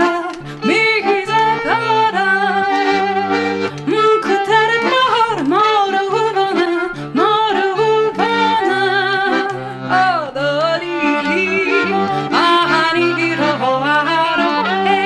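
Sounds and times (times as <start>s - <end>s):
accordion: 0.0s - 15.0s
woman singing: 0.0s - 15.0s.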